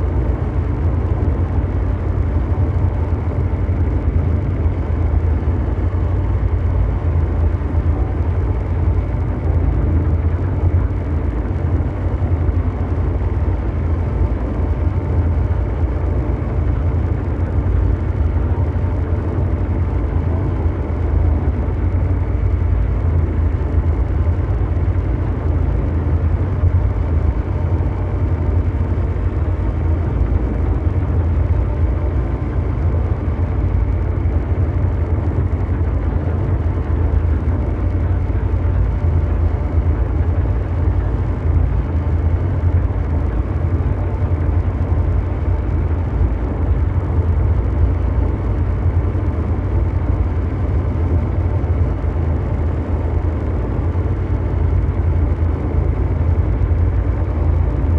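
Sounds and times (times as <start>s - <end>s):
deep brown noise rumble: 0.0s - 57.9s.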